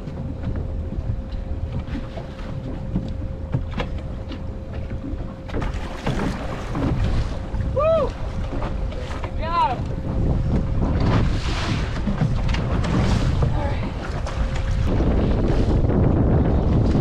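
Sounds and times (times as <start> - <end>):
thin steady hum: 0.0 - 16.6
water washing around hull: 0.0 - 17.0
wind buffeting microphone: 0.0 - 17.0.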